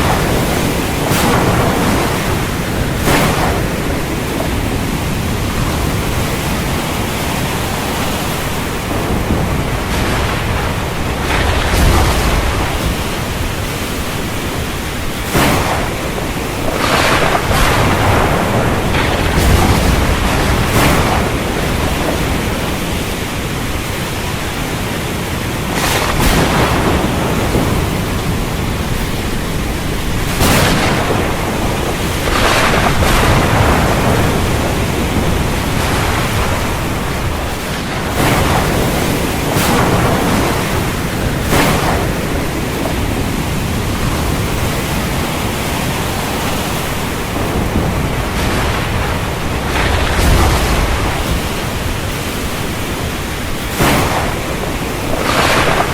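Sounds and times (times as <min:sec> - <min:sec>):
storm wind: 0:00.0 - 0:55.9
surf: 0:00.0 - 0:55.9.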